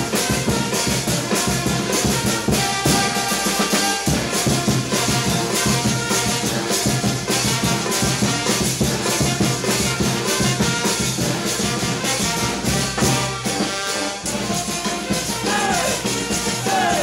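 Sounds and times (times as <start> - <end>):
brass band playing dance music: 0.0 - 17.0.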